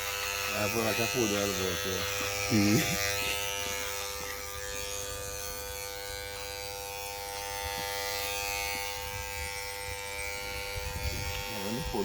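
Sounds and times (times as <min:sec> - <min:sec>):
hair clippers buzzing: 0:00.0 - 0:12.0.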